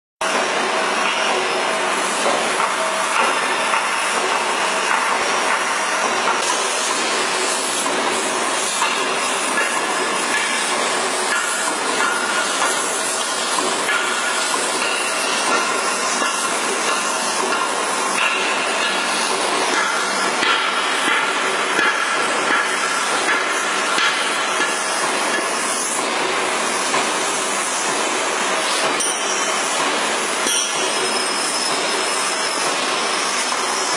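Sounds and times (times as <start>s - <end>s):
lathe machining hiss: 0.2s - 33.9s
workshop noise: 0.2s - 33.9s.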